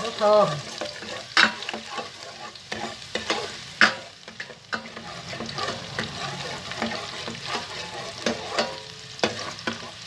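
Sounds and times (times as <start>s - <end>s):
garlic sizzling in hot oil: 0.0s - 10.0s
utensil scraping a pot: 0.4s - 10.0s.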